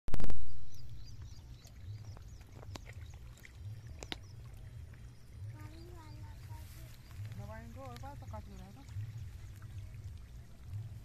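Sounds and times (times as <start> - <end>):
wind rumbling on microphone: 0.1 - 11.0.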